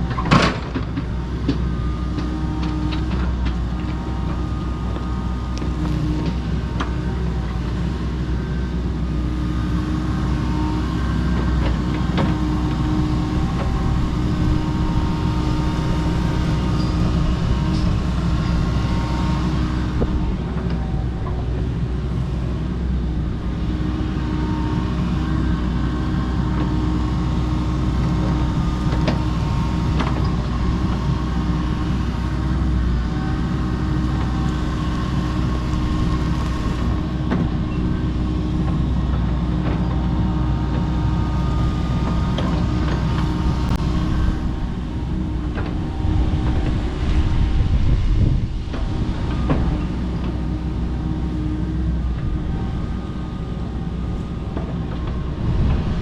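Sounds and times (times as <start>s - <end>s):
excavator running: 0.0s - 56.0s.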